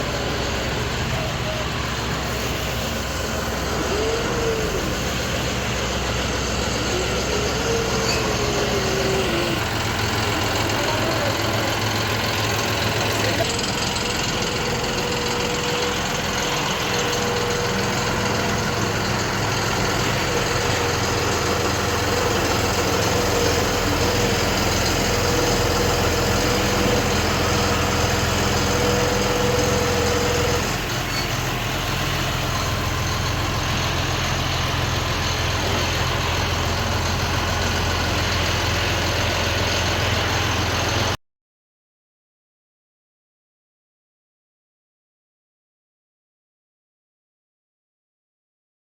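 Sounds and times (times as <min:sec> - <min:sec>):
tractor diesel engine running: 0:00.0 - 0:41.2.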